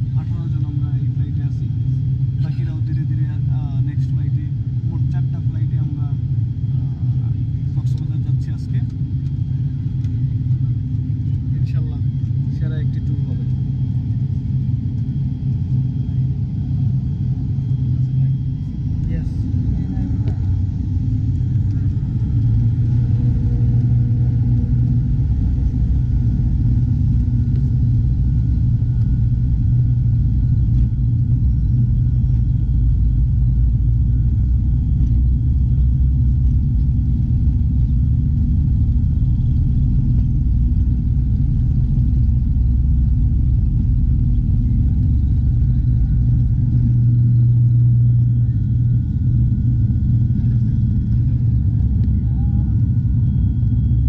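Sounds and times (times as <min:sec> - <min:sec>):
faint high engine whine: 0:00.0 - 0:54.0
turboprop engines droning: 0:00.0 - 0:54.0.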